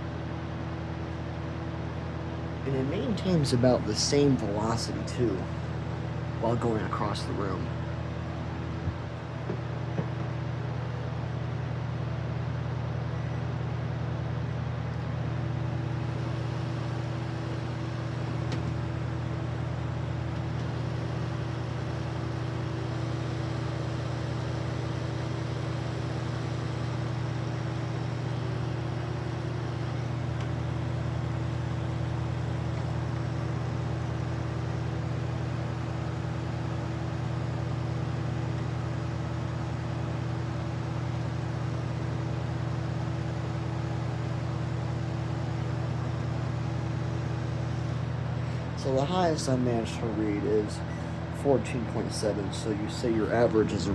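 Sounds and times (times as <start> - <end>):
constant low hum: 0.0 - 53.9
electric fan blowing air: 0.0 - 53.9.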